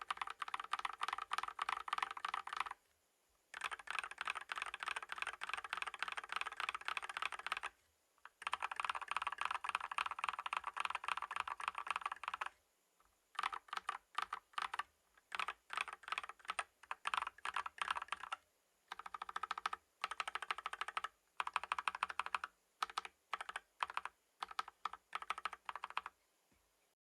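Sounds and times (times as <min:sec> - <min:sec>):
typing on mechanical keyboard: 0:00.0 - 0:02.8, 0:03.5 - 0:12.5, 0:13.3 - 0:26.2.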